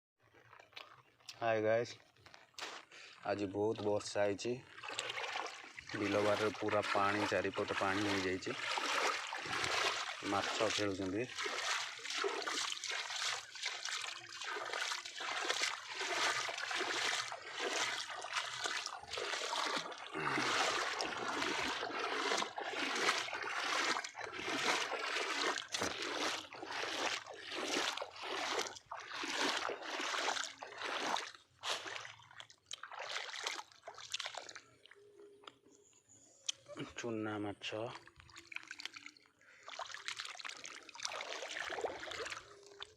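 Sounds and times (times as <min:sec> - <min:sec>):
floodwater splashing: 0:02.6 - 0:35.0, 0:37.6 - 0:42.9.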